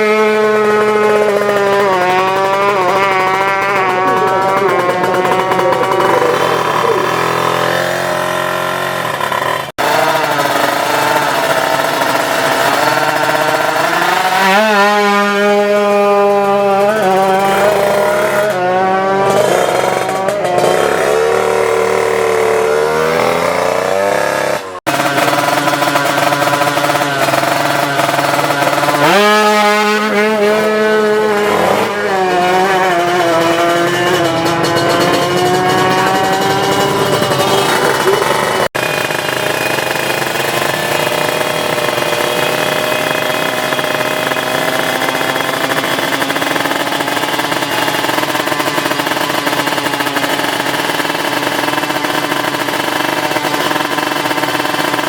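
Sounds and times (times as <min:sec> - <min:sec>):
two-stroke motorcycle engines revving: 0:00.0 - 0:55.0.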